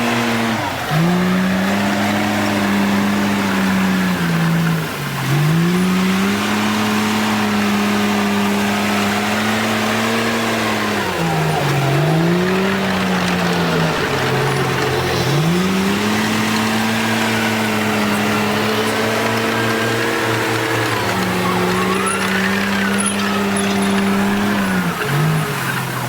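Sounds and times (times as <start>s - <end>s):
bulldozer diesel engine labouring: 0.0s - 26.0s.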